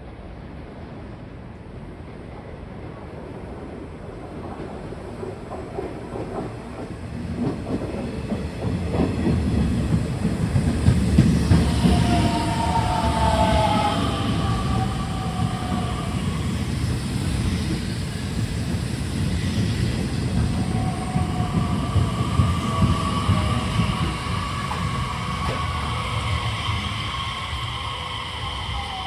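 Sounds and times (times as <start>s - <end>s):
train wheels rumbling on rails: 1.8s - 29.0s.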